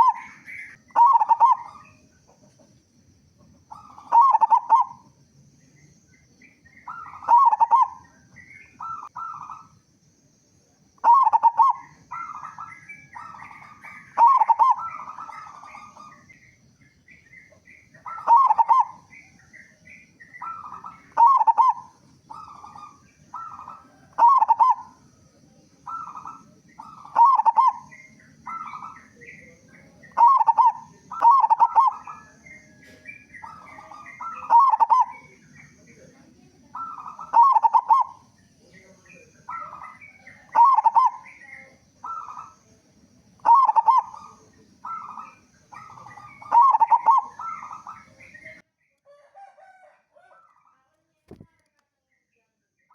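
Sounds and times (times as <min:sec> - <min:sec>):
dove cooing: 0:00.0 - 0:02.8, 0:03.4 - 0:05.2, 0:06.6 - 0:09.8, 0:11.0 - 0:16.4, 0:17.1 - 0:48.6
faint high whine: 0:00.0 - 0:48.6
small birds chirping: 0:00.0 - 0:49.0.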